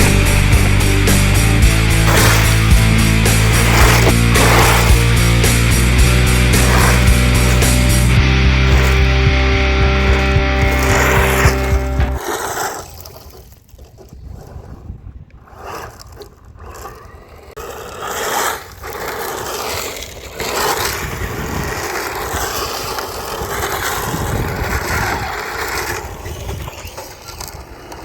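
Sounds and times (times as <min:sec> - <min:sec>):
tyres crunching on loose ground: 0:00.0 - 0:28.0.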